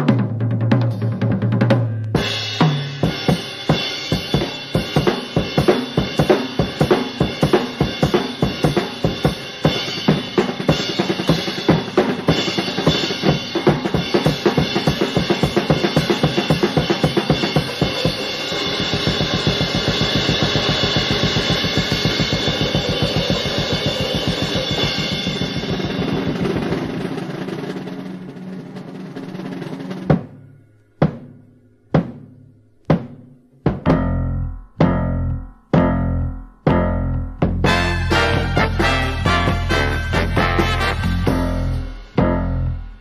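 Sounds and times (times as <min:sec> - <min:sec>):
drum kit playing: 0:00.0 - 0:43.0.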